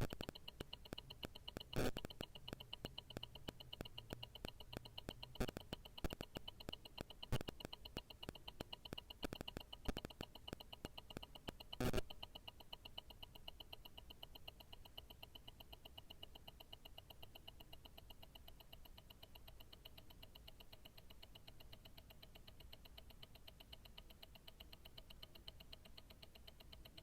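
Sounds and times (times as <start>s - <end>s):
watch ticking: 0.0s - 27.0s.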